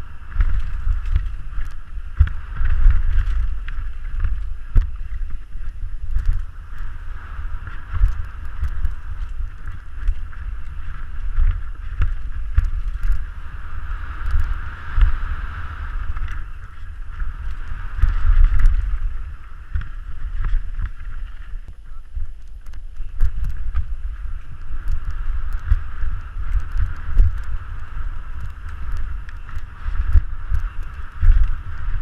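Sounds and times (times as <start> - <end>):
bike clicking and rattling: 0.0 - 32.0
wind buffeting microphone: 0.0 - 32.0.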